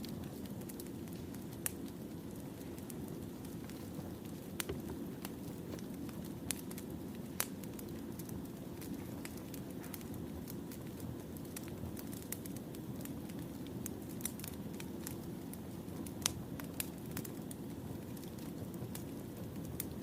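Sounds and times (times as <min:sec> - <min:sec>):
firewood crackling and popping: 0:00.0 - 0:20.0.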